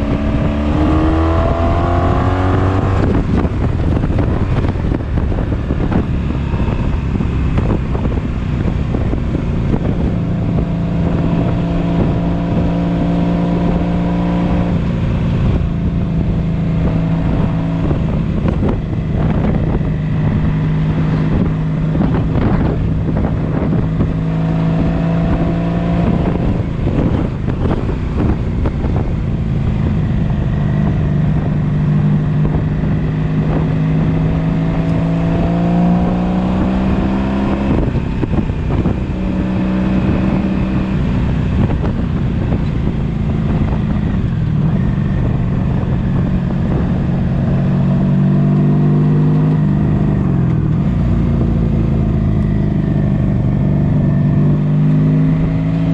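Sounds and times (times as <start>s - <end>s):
motorcycle engine revving: 0.0s - 55.9s
wind buffeting microphone: 0.0s - 55.9s.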